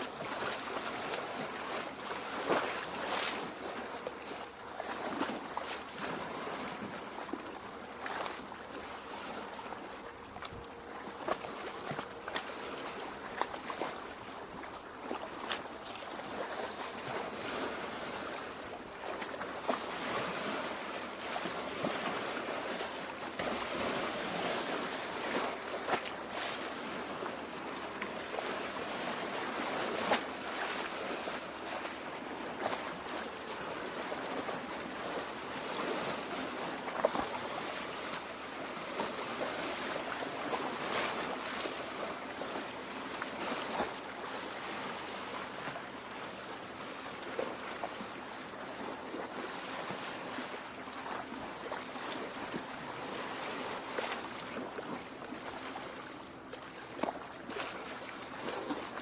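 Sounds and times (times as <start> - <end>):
water lapping at shore: 0.0 - 59.0.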